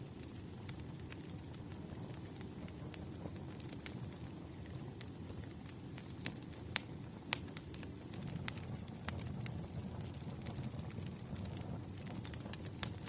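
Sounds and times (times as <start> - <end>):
burning logs crackling and popping: 0.0 - 13.0
flames rumbling: 0.0 - 13.0.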